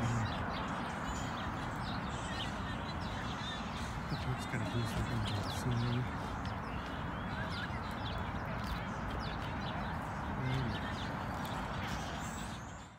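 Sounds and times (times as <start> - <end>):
outdoor background noise: 0.0 - 12.9
small birds chirping: 0.0 - 12.9.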